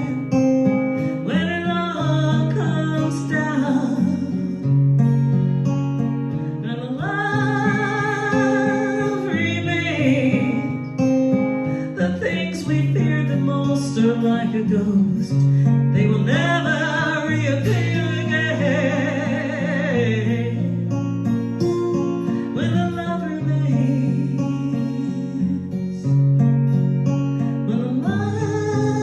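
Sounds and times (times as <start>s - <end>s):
person singing: 0.0s - 4.8s, 6.6s - 20.8s, 22.2s - 26.1s, 27.7s - 29.0s
acoustic guitar chords: 0.0s - 29.0s.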